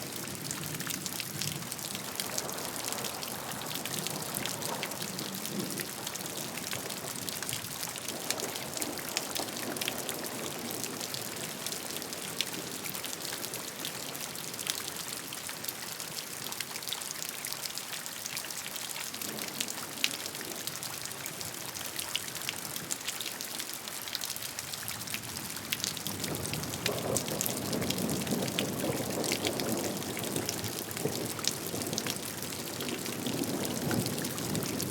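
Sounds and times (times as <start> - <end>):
steady rain hiss: 0.0 - 16.4, 18.6 - 34.9
rush of water: 0.0 - 34.9.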